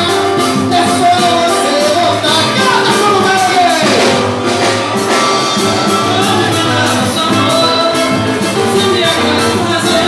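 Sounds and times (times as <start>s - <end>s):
live band instrumental music: 0.0s - 10.0s.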